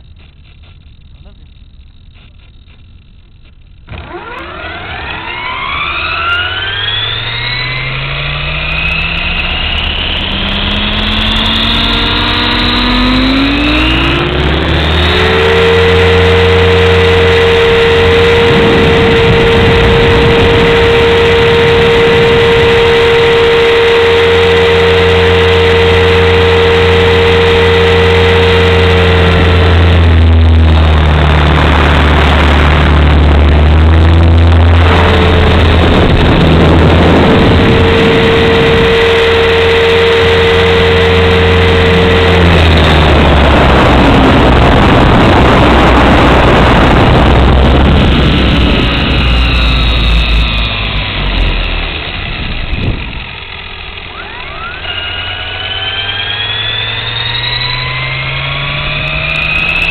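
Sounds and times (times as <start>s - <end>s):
rc helicopter motor whine: 0.0s - 59.9s.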